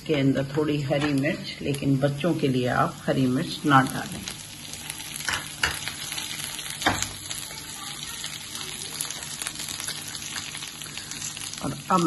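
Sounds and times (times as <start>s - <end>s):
vegetables sizzling in hot oil: 0.2s - 12.0s.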